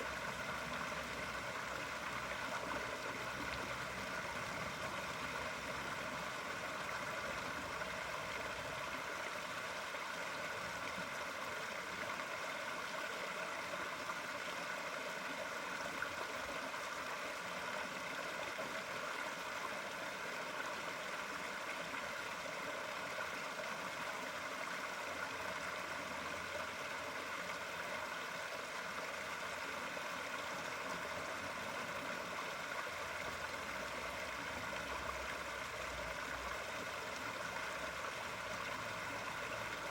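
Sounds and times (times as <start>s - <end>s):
flowing water splashing: 0.0s - 39.9s.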